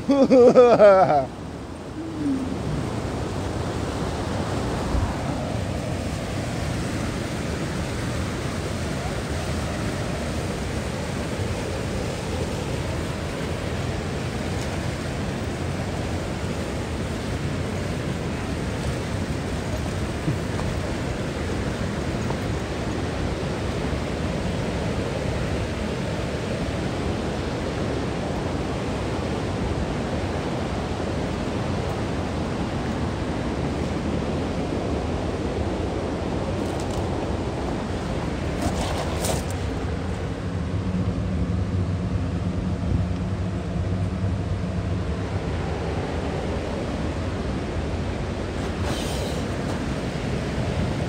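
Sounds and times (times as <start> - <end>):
river water and waterfall rushing: 0.0 - 51.0.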